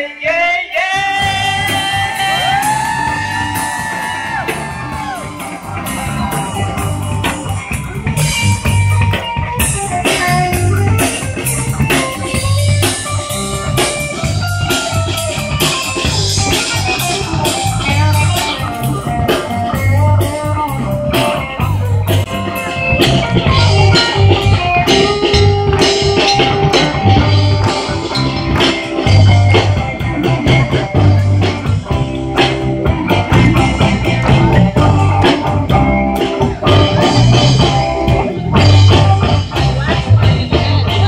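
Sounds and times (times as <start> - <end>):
drum kit: 0.9 - 41.0
electric guitar: 0.9 - 41.0.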